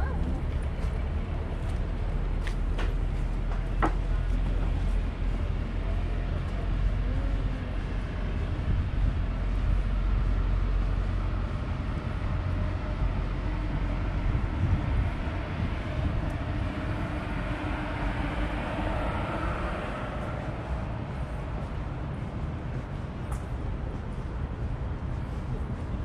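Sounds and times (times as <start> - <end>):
faint vehicle whine: 0.0 - 26.0
street traffic rumble: 0.0 - 26.0.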